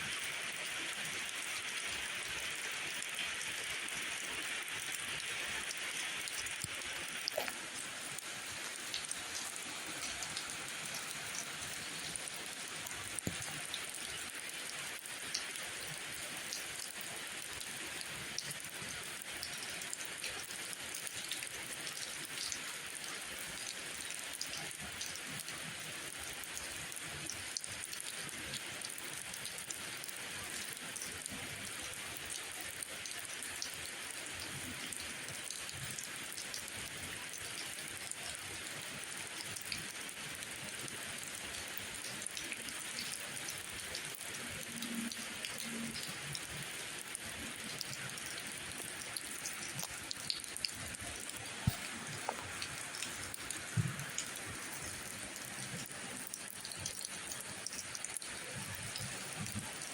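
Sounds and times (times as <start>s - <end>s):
steady rain hissing: 0.0s - 59.9s.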